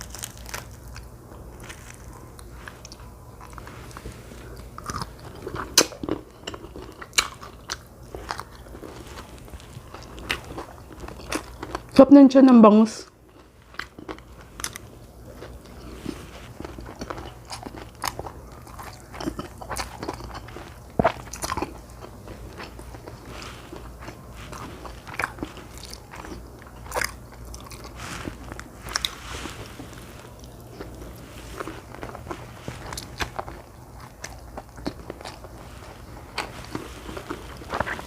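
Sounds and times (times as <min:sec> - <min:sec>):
person chewing wetly: 0:00.0 - 0:12.0, 0:13.2 - 0:38.0
small crunches: 0:00.0 - 0:12.0, 0:13.3 - 0:38.0
faint low hum: 0:00.0 - 0:38.0.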